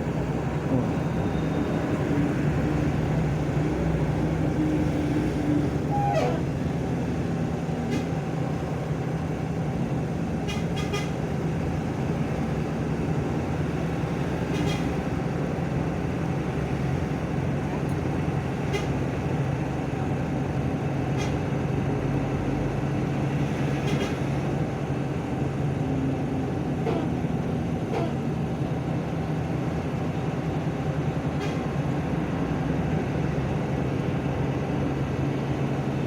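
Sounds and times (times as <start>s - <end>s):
bus engine running: 0.0s - 36.0s
tyres on road: 0.0s - 36.0s.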